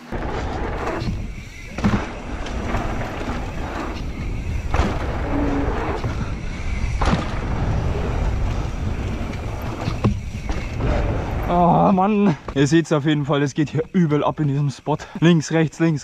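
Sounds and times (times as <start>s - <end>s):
bike tyres rumbling on dirt: 0.0s - 14.0s.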